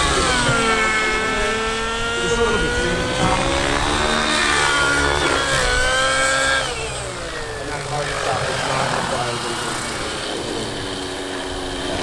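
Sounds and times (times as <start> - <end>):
model helicopter engine whine: 0.0 - 12.0.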